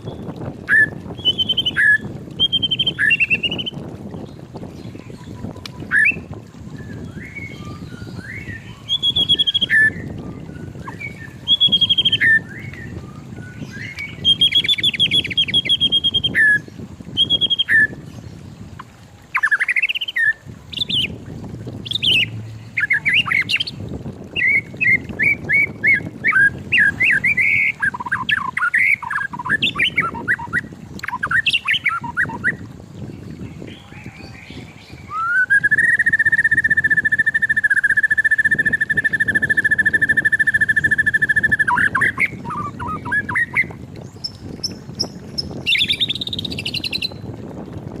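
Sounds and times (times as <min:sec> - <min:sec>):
songbird singing whistled phrases: 0:00.1 - 0:18.0, 0:19.3 - 0:21.2, 0:21.8 - 0:32.6, 0:33.6 - 0:47.2.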